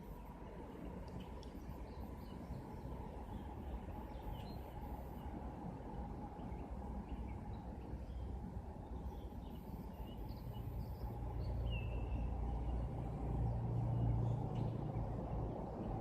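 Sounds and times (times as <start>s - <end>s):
faint bird chirps: 0.0s - 5.4s, 6.2s - 16.0s
steady low rumble: 0.0s - 16.0s.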